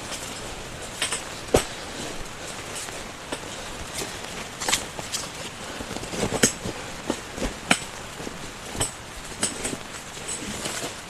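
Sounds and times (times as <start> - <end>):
rain: 0.0 - 11.0
wind: 0.0 - 11.0.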